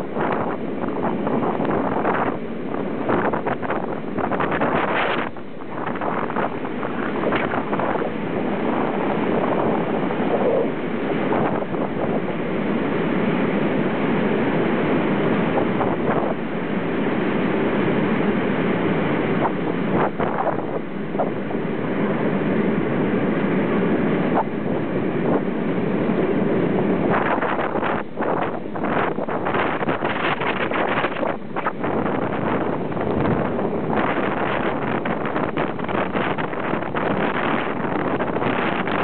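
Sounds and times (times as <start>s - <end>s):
wind rushing across microphone: 0.0s - 39.0s.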